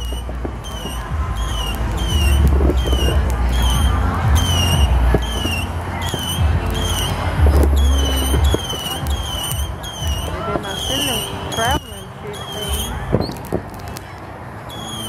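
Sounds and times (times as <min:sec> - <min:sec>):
high falling chirp: 0:00.0 - 0:13.9, 0:14.7 - 0:15.0
distant fireworks thumps: 0:00.0 - 0:14.1
steady low rumble: 0:00.0 - 0:15.0.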